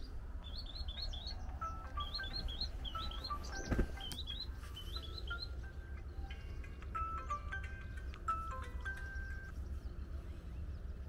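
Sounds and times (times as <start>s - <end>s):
songbird whistling: 0.0s - 10.8s.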